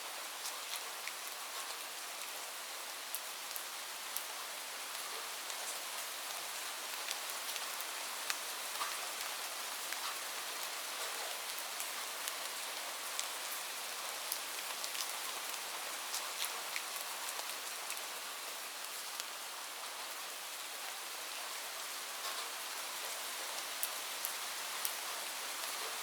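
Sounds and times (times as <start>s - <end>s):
light rain ticking on a surface: 0.0s - 26.0s.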